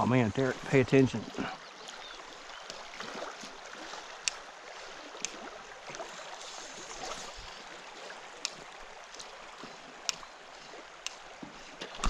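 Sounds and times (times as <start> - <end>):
paddle dipping in water: 0.0 - 12.0
river water rippling: 0.0 - 12.0.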